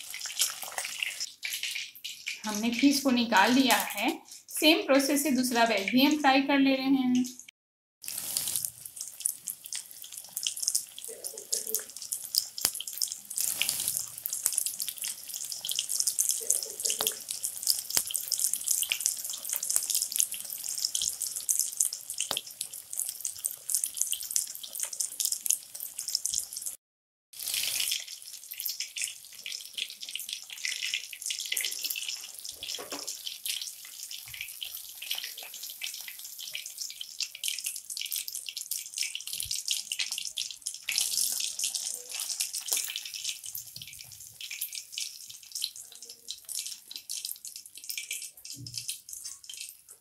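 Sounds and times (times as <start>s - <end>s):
fish sizzling in hot oil: 0.0s - 6.3s, 8.0s - 50.0s.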